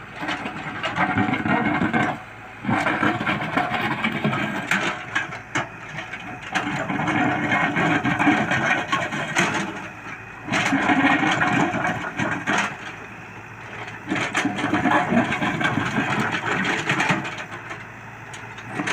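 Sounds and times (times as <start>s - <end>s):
excavator engine: 0.0s - 18.9s
knocks and scraping: 0.2s - 13.0s, 13.6s - 18.9s.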